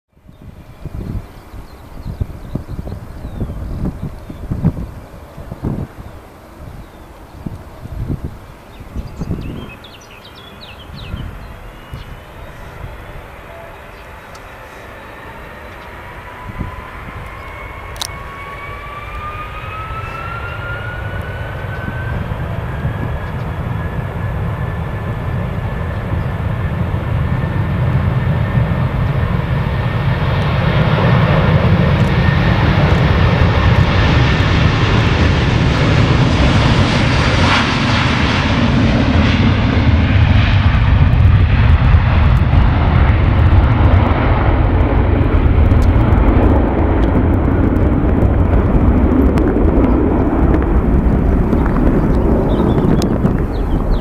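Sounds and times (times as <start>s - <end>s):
jet taking off: 0.2s - 54.0s
jet engines spooling up: 0.6s - 54.0s.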